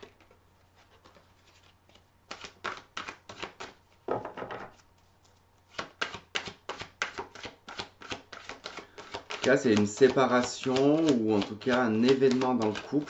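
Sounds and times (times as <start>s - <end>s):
cards being shuffled: 0.0s - 3.8s, 4.7s - 13.0s.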